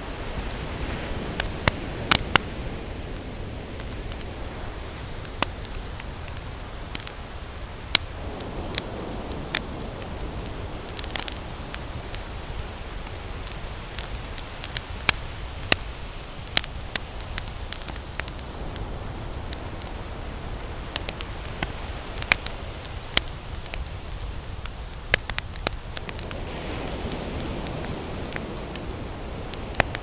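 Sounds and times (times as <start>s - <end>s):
low fire rumble: 0.0s - 30.0s
burning wood popping: 0.2s - 30.0s.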